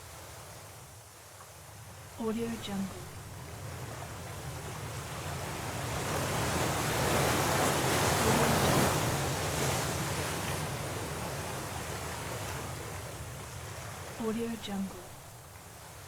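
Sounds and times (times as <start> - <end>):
stormy sea waves: 1.7 - 16.0.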